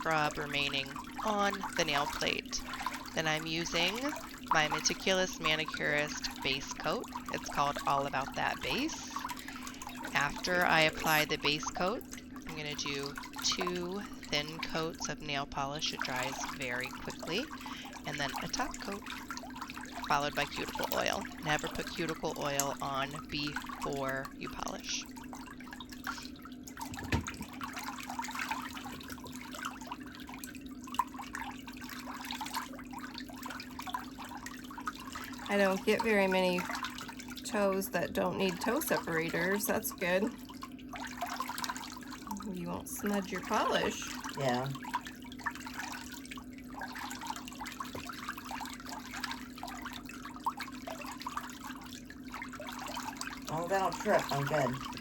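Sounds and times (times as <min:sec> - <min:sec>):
steady low hum: 0:00.0 - 0:55.0
water trickling and dripping: 0:00.0 - 0:55.0.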